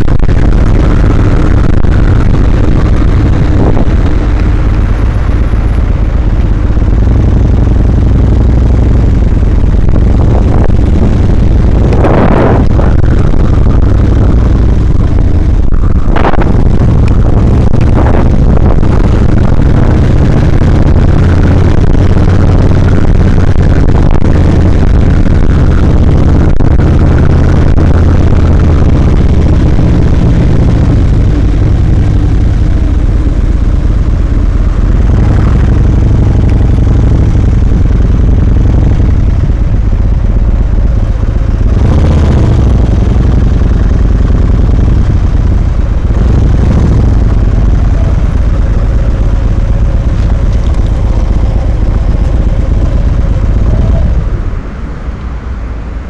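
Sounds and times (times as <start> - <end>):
motorcycle engine running: 0.0 - 56.0
wind rushing on microphone: 0.0 - 56.0.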